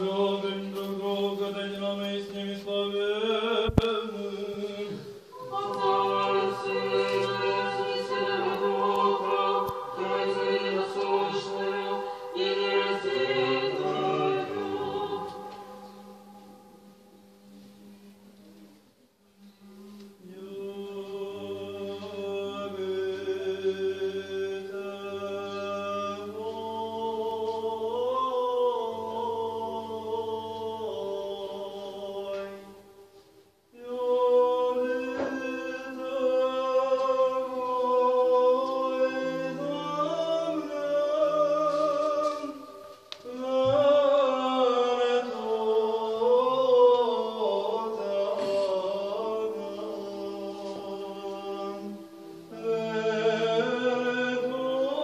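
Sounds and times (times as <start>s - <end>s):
church choir chanting: 0.0s - 18.0s, 19.8s - 33.2s, 33.8s - 55.0s.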